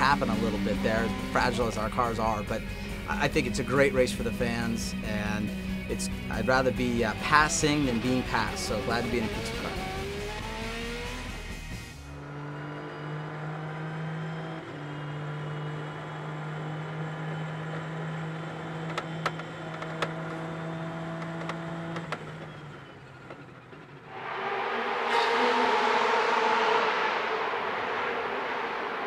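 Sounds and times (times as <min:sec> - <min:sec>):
race car engine: 0:00.0 - 0:29.0.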